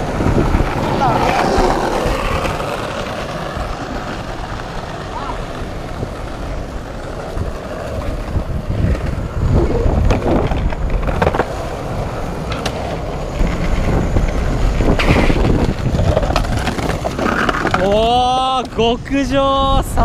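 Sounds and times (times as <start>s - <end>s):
skateboard wheels clacking on joints: 0.0s - 19.1s
skateboard wheels rolling on concrete: 0.0s - 20.0s.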